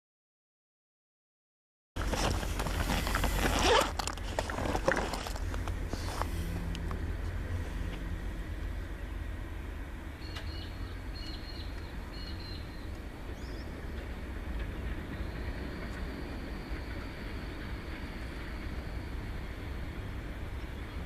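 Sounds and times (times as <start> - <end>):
diesel locomotives rumbling: 2.0 - 21.0.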